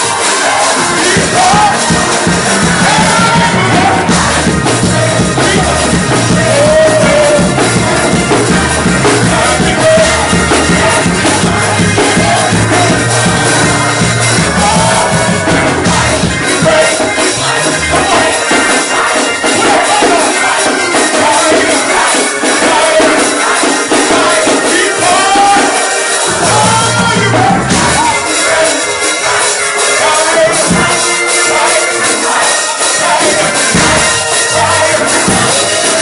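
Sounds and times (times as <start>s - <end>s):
stepping bass line: 0.0s - 31.2s, 32.8s - 36.0s
live gospel band: 0.0s - 36.0s
person singing: 0.0s - 36.0s.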